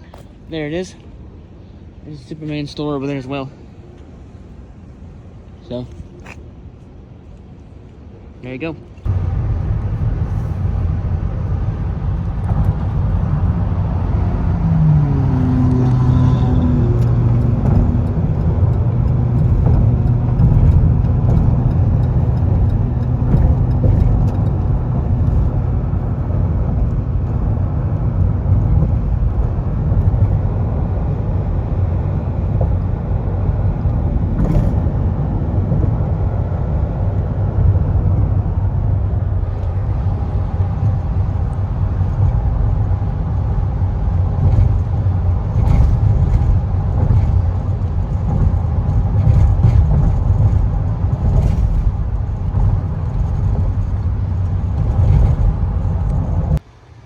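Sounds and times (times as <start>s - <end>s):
vehicle engine rumble: 0.0s - 57.0s.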